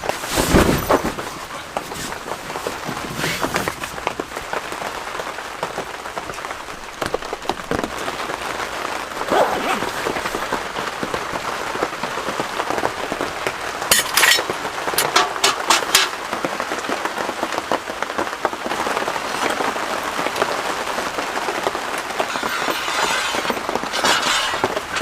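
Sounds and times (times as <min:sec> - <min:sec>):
rain falling on a surface: 0:00.0 - 0:25.0.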